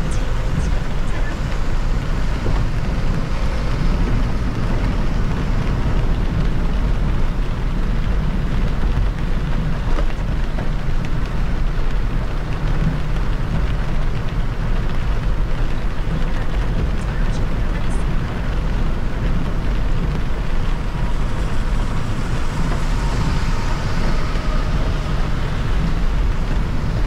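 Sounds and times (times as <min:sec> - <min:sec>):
rain and spray hissing: 0:00.0 - 0:27.0
tyres rumbling on wet road: 0:00.0 - 0:27.0.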